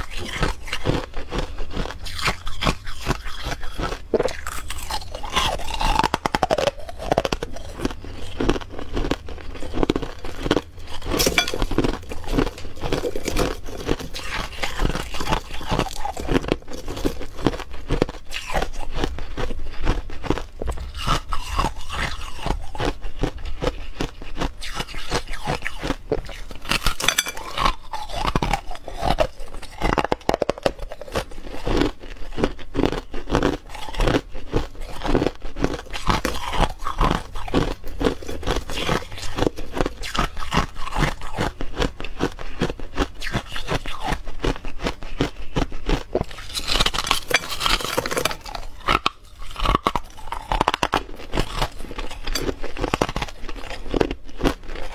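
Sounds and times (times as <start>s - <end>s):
person crunching ice: 0.0s - 54.9s.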